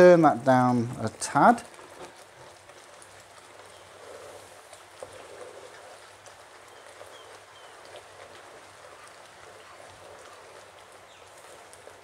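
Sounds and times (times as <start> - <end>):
thick sauce boiling and spitting: 0.0 - 12.0
wooden spatula stirring: 0.0 - 12.0.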